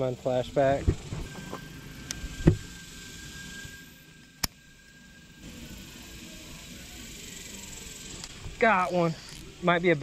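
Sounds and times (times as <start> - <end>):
thin high whine: 0.0 - 10.0.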